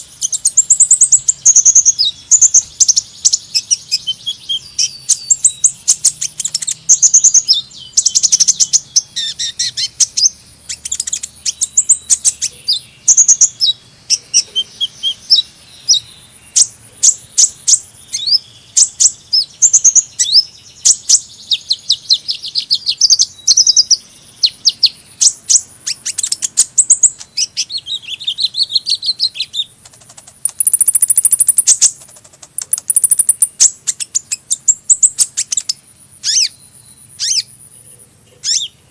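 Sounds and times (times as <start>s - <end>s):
bird chirping and trilling: 0.0s - 38.9s.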